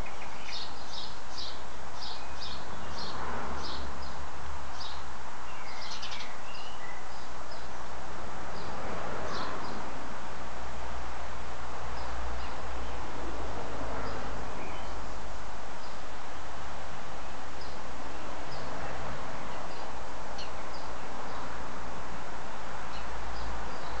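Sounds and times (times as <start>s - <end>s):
small birds chirping: 0.0s - 7.9s, 8.5s - 10.1s, 11.6s - 13.2s, 13.9s - 21.9s, 22.8s - 24.0s.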